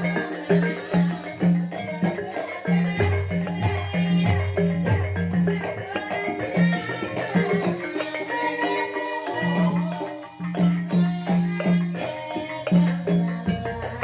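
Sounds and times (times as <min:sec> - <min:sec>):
gamelan pitched percussion: 0:00.0 - 0:14.0
rattling percussion: 0:00.0 - 0:14.0.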